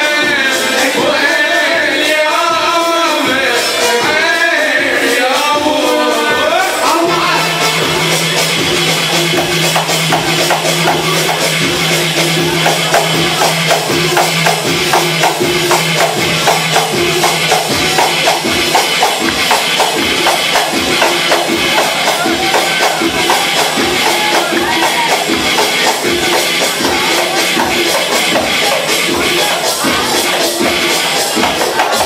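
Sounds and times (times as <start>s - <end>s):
drums and tambourine beat: 0.0s - 32.0s
live band dance music: 0.0s - 32.0s.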